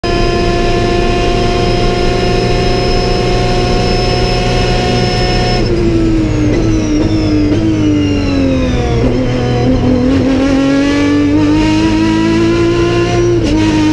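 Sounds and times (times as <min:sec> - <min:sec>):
racing car engine high revs: 0:00.0 - 0:13.9.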